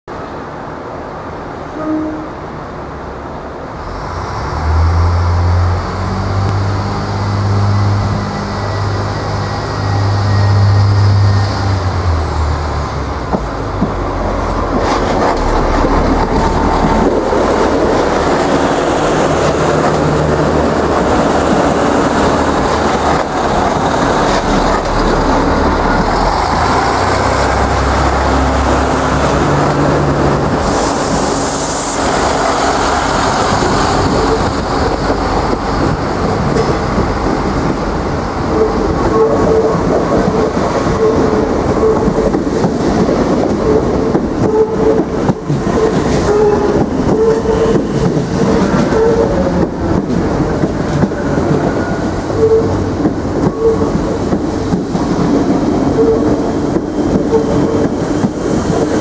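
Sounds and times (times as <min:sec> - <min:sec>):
train wheels rumbling on rails: 0:01.8 - 0:59.0.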